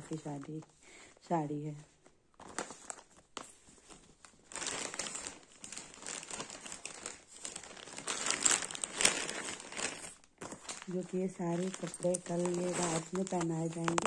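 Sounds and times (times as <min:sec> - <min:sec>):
plastic packets crinkling: 0:02.0 - 0:14.0
sharp plastic crackles: 0:02.0 - 0:14.0.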